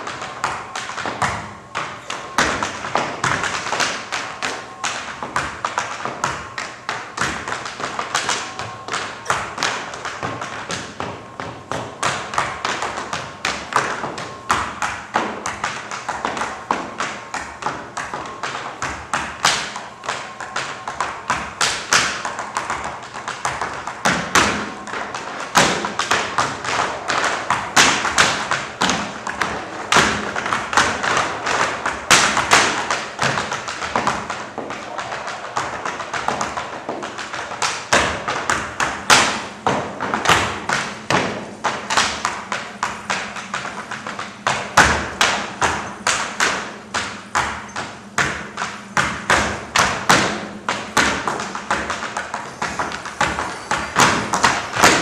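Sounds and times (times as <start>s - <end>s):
accented foot stamps: 0.0s - 55.0s
tap shoes striking stage floor: 0.0s - 55.0s.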